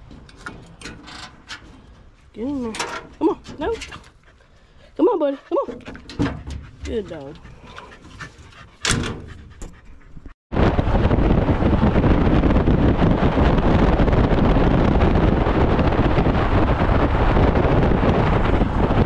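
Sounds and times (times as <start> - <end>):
wind buffeting camera: 0.0 - 19.0.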